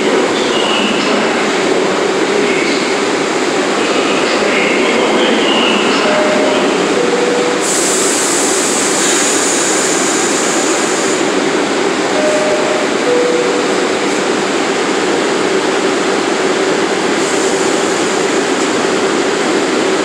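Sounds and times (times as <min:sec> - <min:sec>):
subway trains rumbling: 0:00.0 - 0:20.0.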